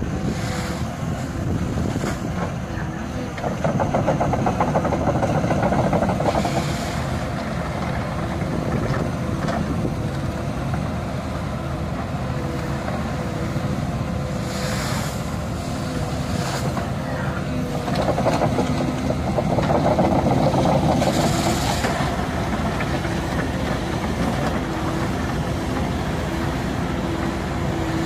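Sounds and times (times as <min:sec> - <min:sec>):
excavator diesel engine and hydraulics: 0:00.0 - 0:28.0.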